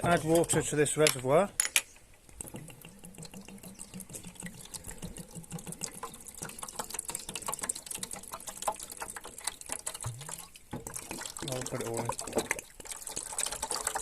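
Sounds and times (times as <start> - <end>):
water pouring into a tray: 2.3 - 14.0.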